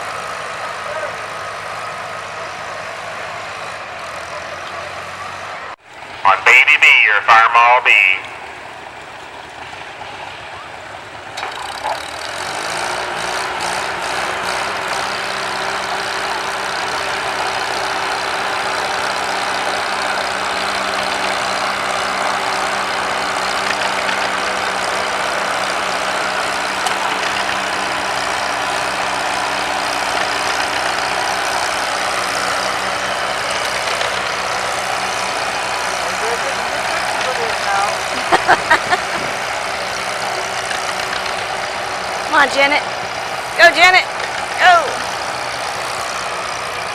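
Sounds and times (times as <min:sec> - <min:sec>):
tractor engine running hard: 0:00.0 - 0:46.9.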